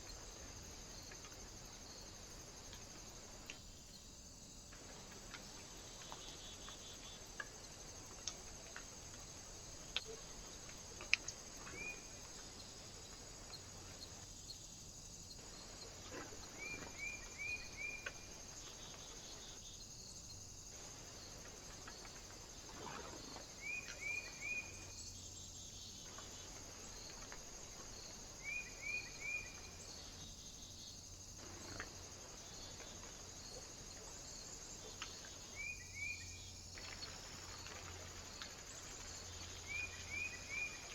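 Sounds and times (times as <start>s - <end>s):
faint hiss: 0.0s - 40.9s.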